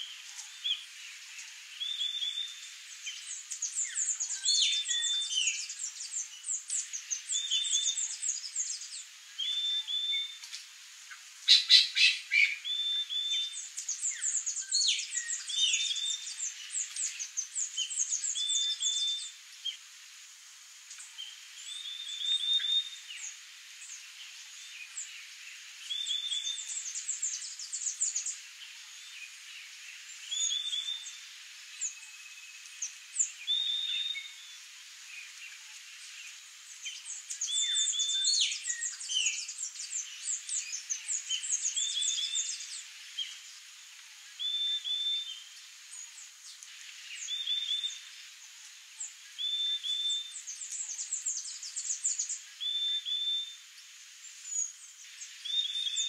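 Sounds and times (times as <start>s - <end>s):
songbirds calling: 0.0s - 56.0s.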